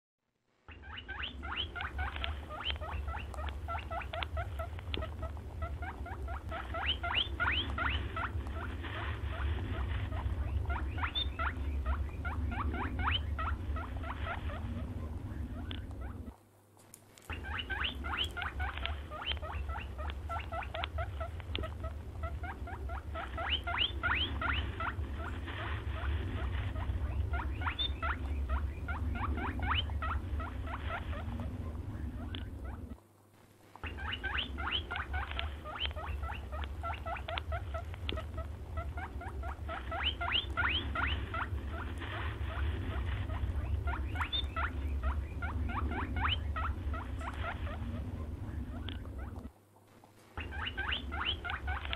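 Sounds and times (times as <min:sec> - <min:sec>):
low hum: 0:00.3 - 0:51.9.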